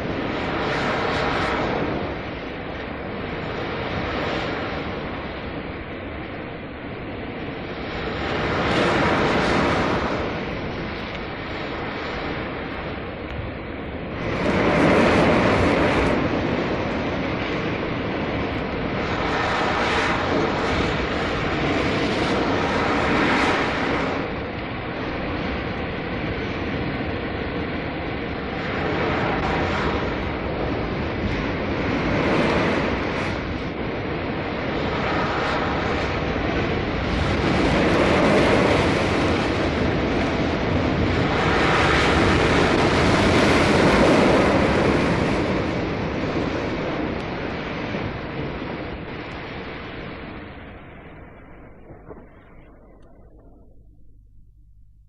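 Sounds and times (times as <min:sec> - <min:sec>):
ocean waves breaking: 0:07.1 - 0:54.0.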